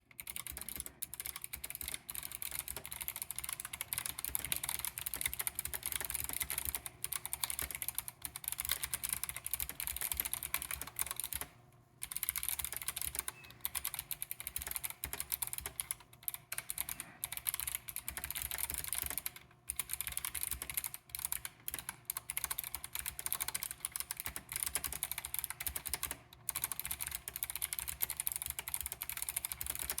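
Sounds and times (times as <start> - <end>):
fast typing on mechanical keyboard: 0.0 - 30.0.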